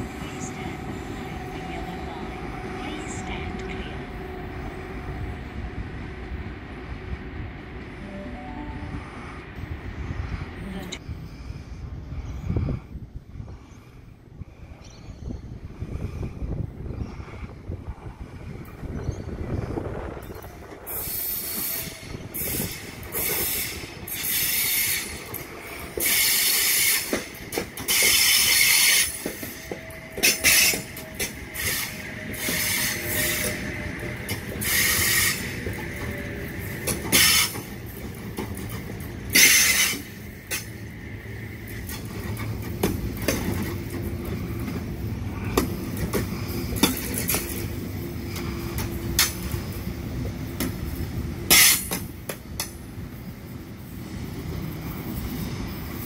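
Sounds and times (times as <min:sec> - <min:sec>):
electric train passing: 0:00.0 - 0:14.8, 0:15.4 - 0:56.0.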